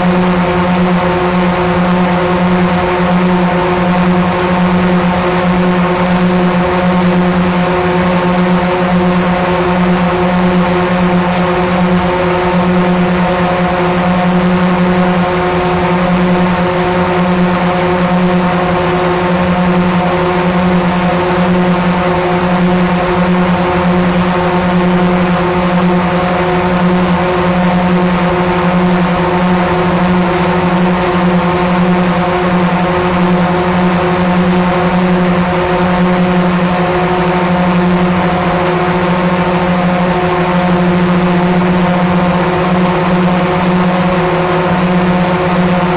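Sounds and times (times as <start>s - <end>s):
drone propellers humming: 0.0s - 45.9s.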